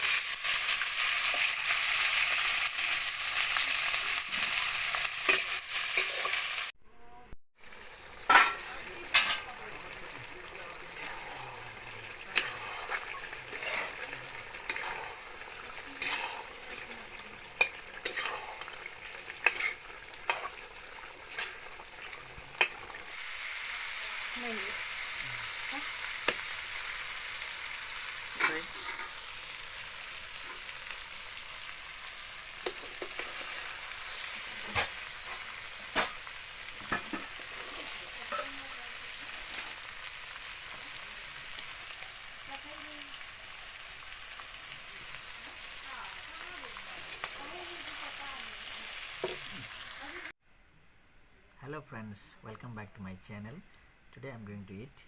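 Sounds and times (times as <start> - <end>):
meat sizzling in a pan: 0.0 - 6.8, 7.6 - 50.4.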